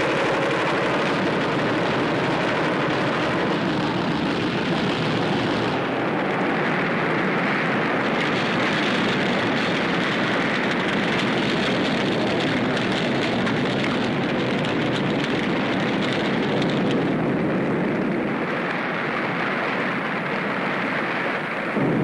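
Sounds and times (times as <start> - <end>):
aircraft engines: 0.0 - 22.0.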